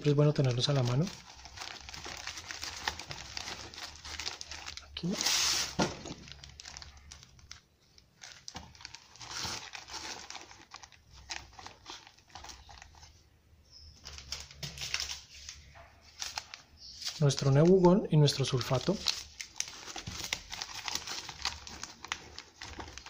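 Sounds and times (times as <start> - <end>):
plastic and fabric rustling: 0.1 - 13.2, 13.8 - 23.0.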